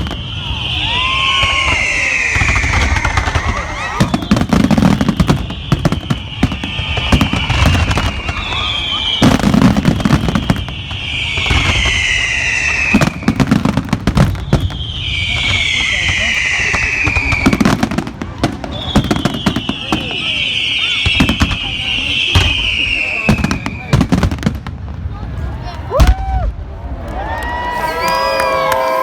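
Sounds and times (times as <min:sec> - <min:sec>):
crackling firework bursts: 0:00.0 - 0:29.0
firework bangs: 0:00.0 - 0:29.0
whistling fireworks: 0:00.0 - 0:29.0.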